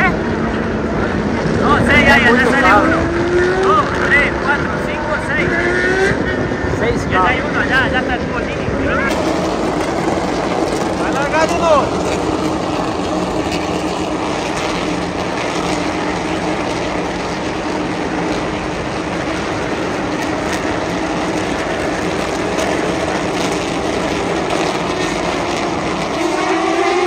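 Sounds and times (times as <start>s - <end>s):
race car engines droning: 0.0s - 27.0s.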